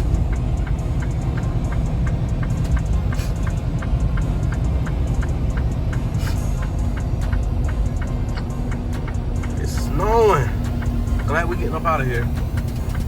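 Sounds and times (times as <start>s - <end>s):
light even ticking: 0.0s - 13.0s
truck engine and road rumble: 0.0s - 13.0s.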